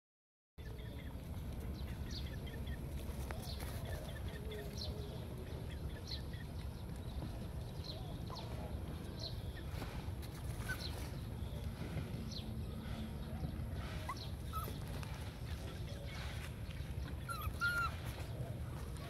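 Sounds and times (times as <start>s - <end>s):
birds chirping: 0.6s - 19.0s.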